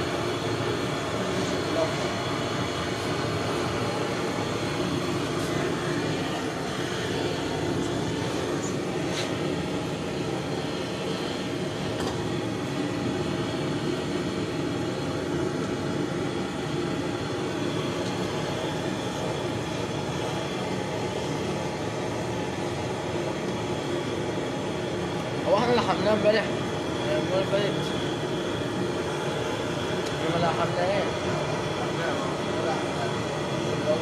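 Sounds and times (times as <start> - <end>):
gas torch flame rushing: 0.0 - 34.0.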